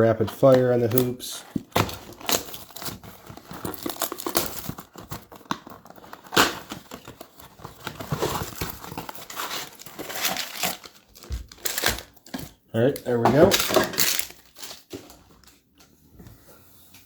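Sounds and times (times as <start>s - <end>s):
plastic wrap and cardboard tearing: 0.2s - 15.5s.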